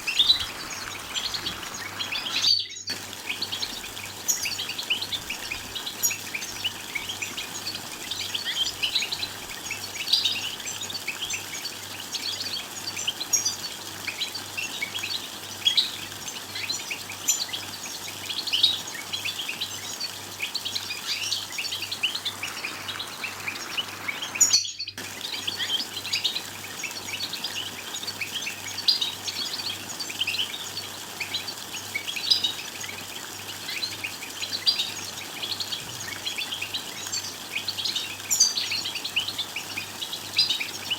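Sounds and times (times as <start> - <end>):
goldfinches twittering: 0.0 - 40.9.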